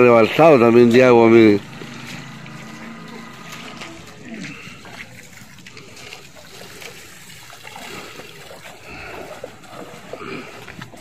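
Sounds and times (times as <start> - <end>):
floodwater trickling and splashing: 0.0 - 11.0.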